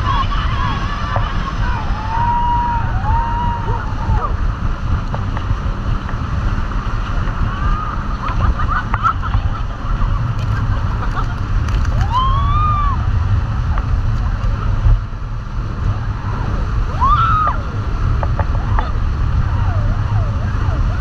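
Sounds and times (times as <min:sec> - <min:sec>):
riders whooping: 0:00.0 - 0:05.1, 0:07.1 - 0:14.9, 0:15.5 - 0:21.0
churning water: 0:00.0 - 0:21.0
wind rushing: 0:00.0 - 0:21.0.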